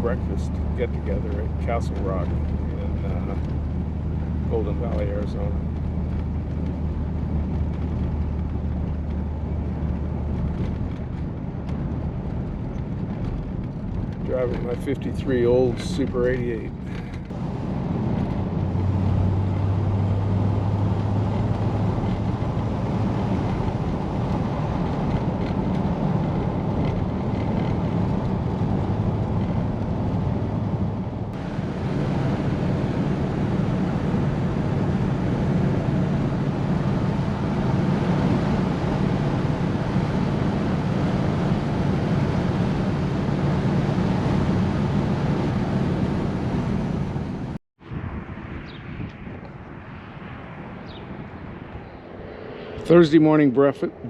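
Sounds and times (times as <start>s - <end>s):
car engine driving: 0.0s - 47.6s, 50.6s - 54.0s.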